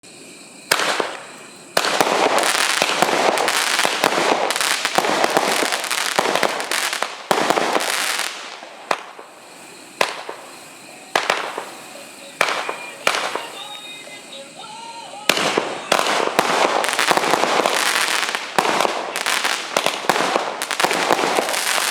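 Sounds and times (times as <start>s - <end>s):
firework bangs: 0.0s - 21.9s
firework crackling bursts: 0.0s - 21.9s
firework launch reports: 0.0s - 21.9s.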